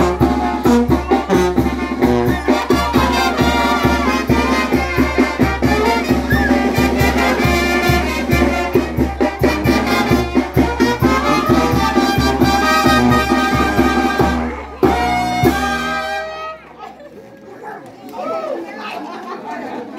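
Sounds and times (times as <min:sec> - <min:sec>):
trumpet melody: 0:00.0 - 0:16.7
brass band playing dance music: 0:00.0 - 0:16.8.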